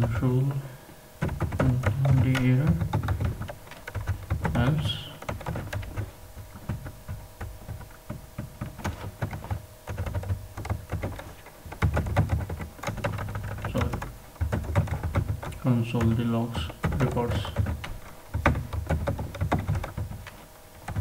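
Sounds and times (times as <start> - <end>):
computer keyboard typing: 1.2 - 21.0.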